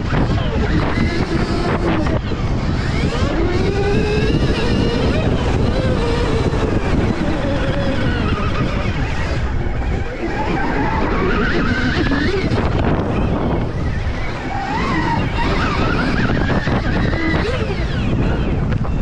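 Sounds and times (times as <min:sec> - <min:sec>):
electric motorbike motor whine: 0:00.0 - 0:19.0
wind rush on microphone: 0:00.0 - 0:19.0.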